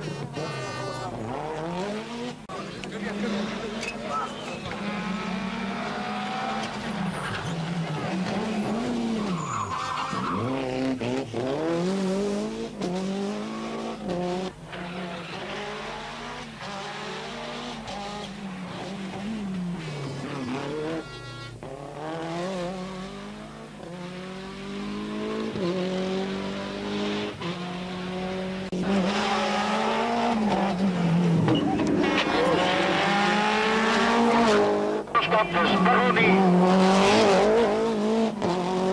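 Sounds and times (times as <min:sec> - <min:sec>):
rally car engine pulling hard: 0:00.0 - 0:38.9.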